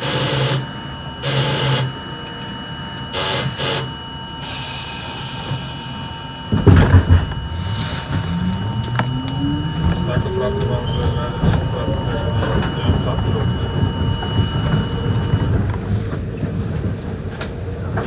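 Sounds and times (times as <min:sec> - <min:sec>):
traction motors whining: 0:00.0 - 0:16.5
train mechanical noise: 0:00.0 - 0:18.0.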